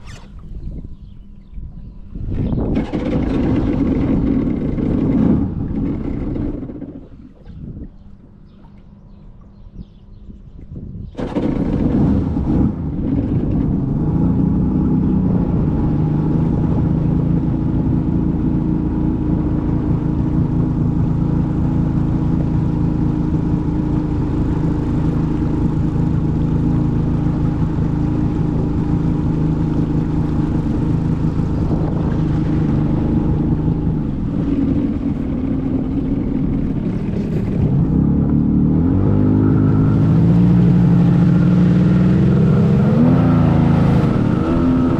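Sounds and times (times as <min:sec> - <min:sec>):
watercraft engine revving: 0:00.0 - 0:09.9, 0:11.0 - 0:44.9.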